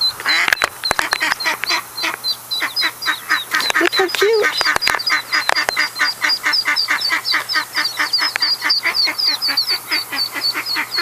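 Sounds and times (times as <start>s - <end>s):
ducklings peeping: 0.0s - 11.0s
duck quacking: 0.1s - 11.0s.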